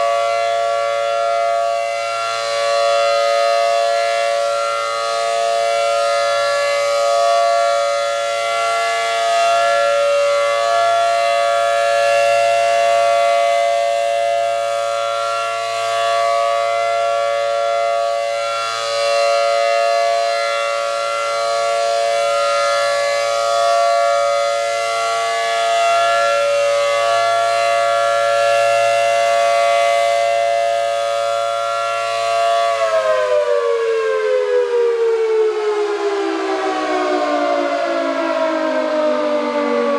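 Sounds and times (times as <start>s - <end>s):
two-tone siren: 0.0s - 39.9s.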